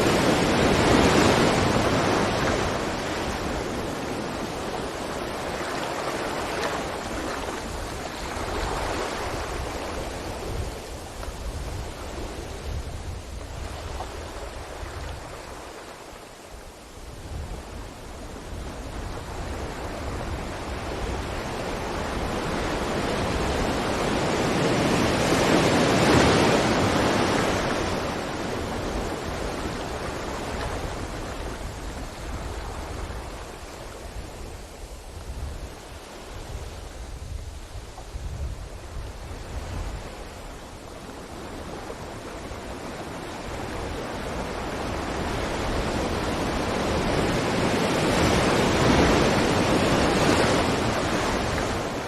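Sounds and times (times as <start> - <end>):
ocean waves breaking: 0.0 - 16.9, 17.5 - 35.1, 38.8 - 52.0.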